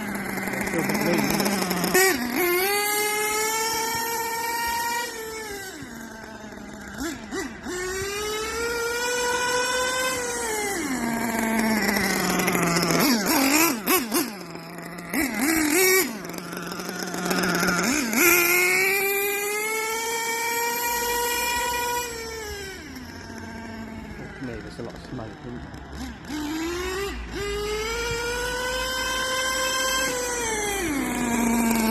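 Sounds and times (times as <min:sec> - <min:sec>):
rc truck engine revving: 0:00.0 - 0:31.9.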